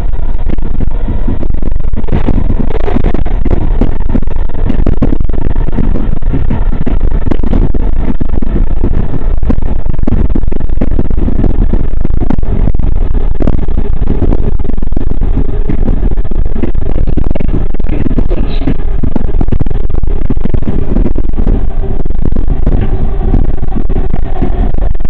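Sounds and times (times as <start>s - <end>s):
steel wheels rumbling on rails: 0.0s - 25.0s.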